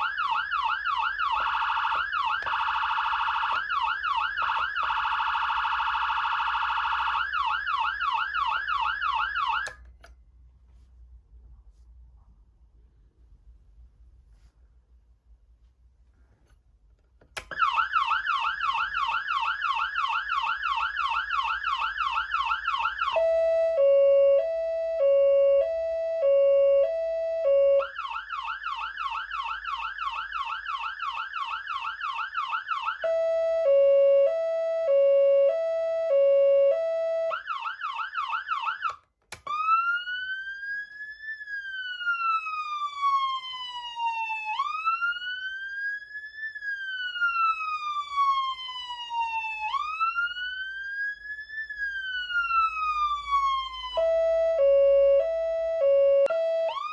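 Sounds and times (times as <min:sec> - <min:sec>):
electronic siren yelp and wail: 0:00.0 - 0:09.8, 0:17.4 - 0:56.9.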